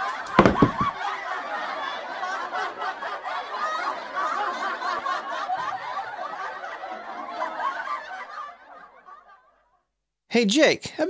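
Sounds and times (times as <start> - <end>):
audience laughter: 0.0 - 9.8.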